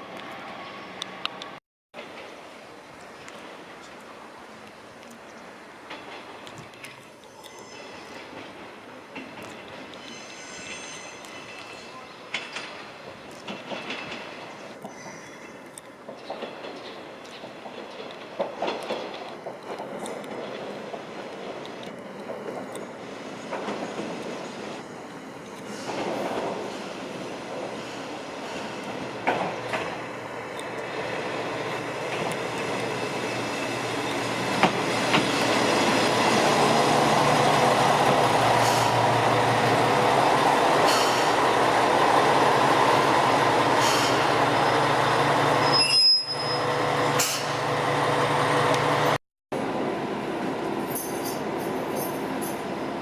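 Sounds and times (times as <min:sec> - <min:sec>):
rumble of wheels on rail: 0:00.0 - 0:53.0.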